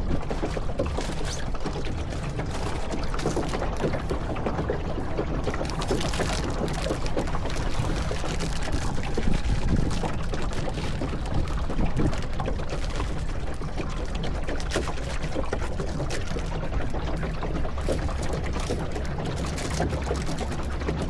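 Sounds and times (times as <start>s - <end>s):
water running and splashing: 0.0s - 21.0s.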